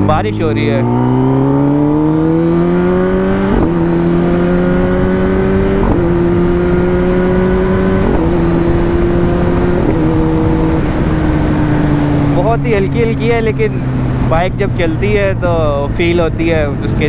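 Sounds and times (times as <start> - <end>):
motorcycle engine accelerating: 0.0 - 17.0
wind noise: 0.8 - 17.0.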